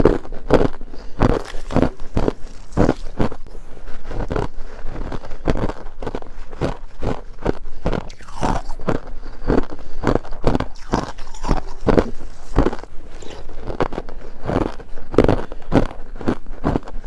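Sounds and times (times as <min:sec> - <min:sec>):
person crunching ice: 0:00.0 - 0:07.3, 0:07.9 - 0:17.0.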